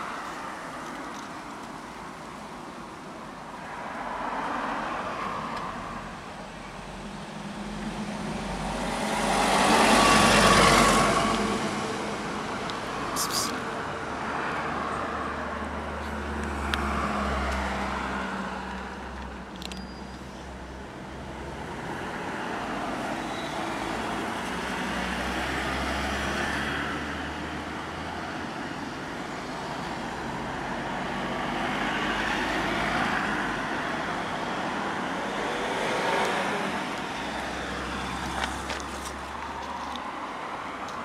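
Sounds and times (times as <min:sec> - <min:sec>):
cars passing: 0:00.0 - 0:41.0.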